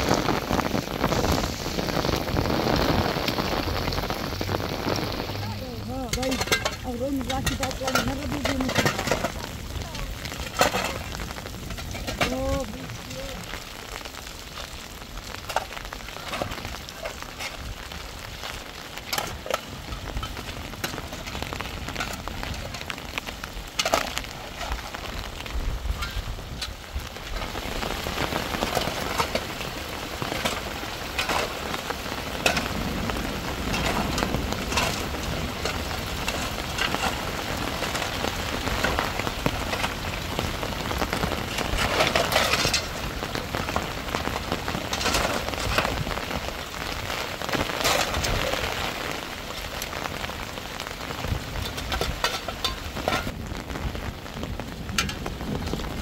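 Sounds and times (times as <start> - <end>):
heavy rain patter: 0.0 - 56.0
low rumble of strong wind: 0.0 - 56.0
sharp crackles: 0.0 - 56.0.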